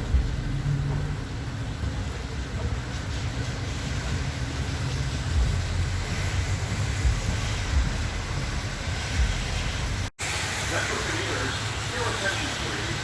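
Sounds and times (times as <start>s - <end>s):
rain hissing: 0.0s - 13.0s
train rumbling: 0.0s - 13.0s.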